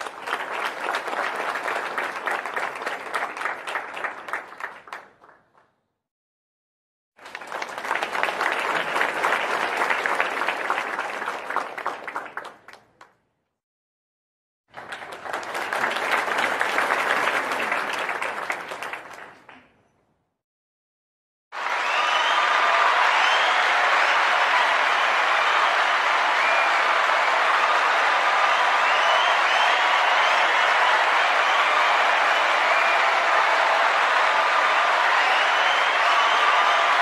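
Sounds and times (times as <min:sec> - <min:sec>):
crowd applause: 0:00.0 - 0:05.4, 0:07.2 - 0:13.1, 0:14.7 - 0:19.6, 0:21.5 - 0:37.0.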